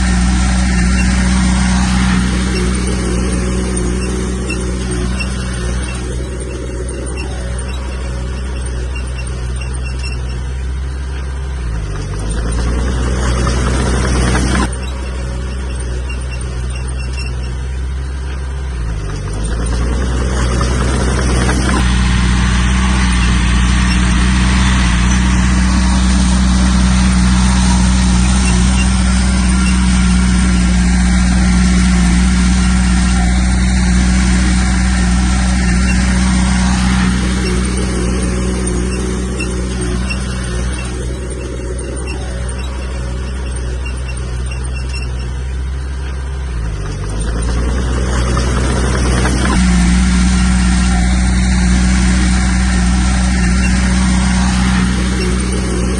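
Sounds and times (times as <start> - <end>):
diesel machinery engine running: 0.0 - 55.9.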